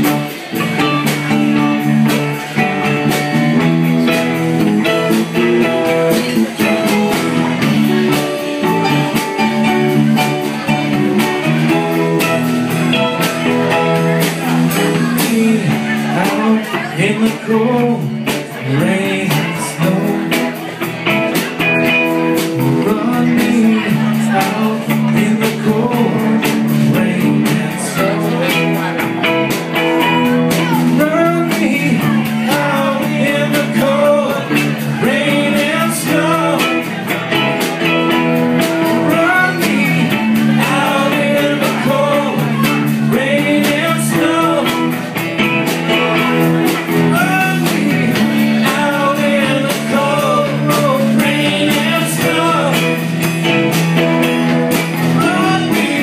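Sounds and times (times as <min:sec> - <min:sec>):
bass: 0:00.0 - 0:56.0
electric guitar lead: 0:00.0 - 0:56.0
keyboard chords: 0:00.0 - 0:56.0
steady drum beat: 0:00.0 - 0:56.0.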